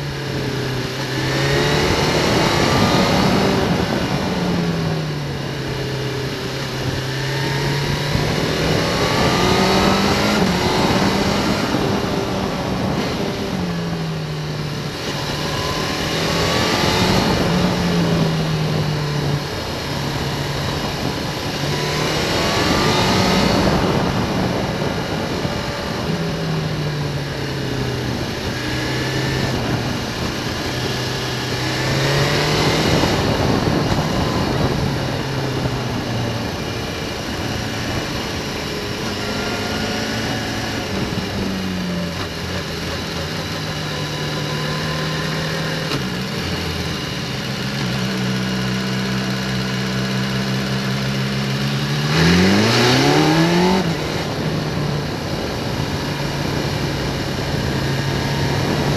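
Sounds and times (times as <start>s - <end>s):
motorcycle engine accelerating: 0.0s - 58.9s
wind and road noise: 0.0s - 58.9s.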